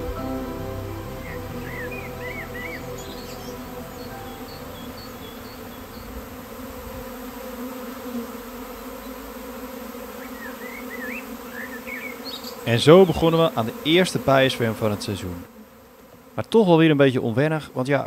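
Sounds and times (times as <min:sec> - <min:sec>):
bee swarm buzzing: 0:00.0 - 0:16.5.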